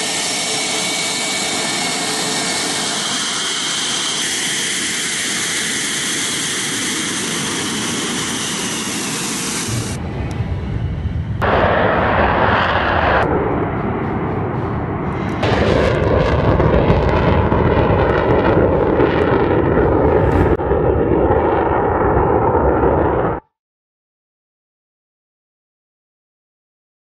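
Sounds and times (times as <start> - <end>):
jet engines roaring with crackle: 0.0 - 23.4.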